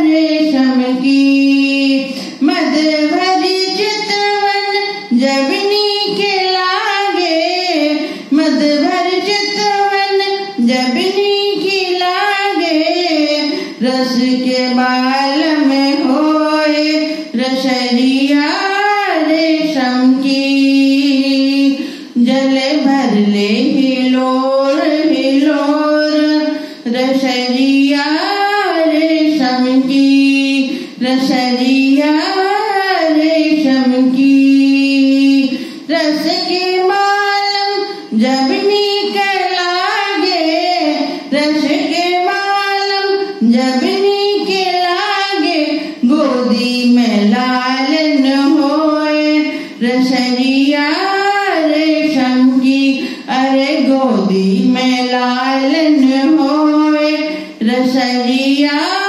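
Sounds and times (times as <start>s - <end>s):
woman singing into a microphone: 0.0s - 59.0s.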